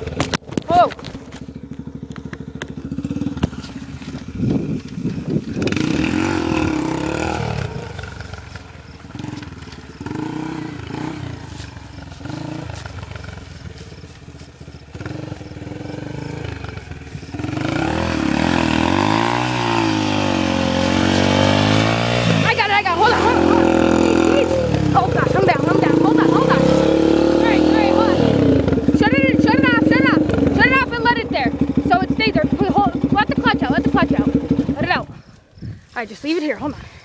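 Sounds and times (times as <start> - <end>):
dirt bike engine revving: 0.0 - 35.2.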